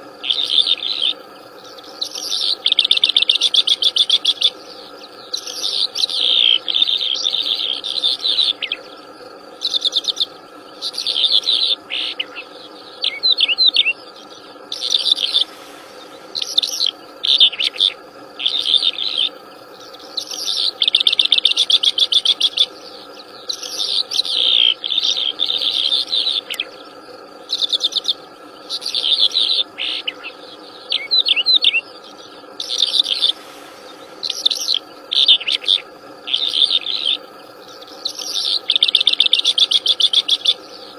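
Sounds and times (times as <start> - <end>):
insect drone: 0.0 - 40.9
songbird chirps and trills: 0.0 - 40.9.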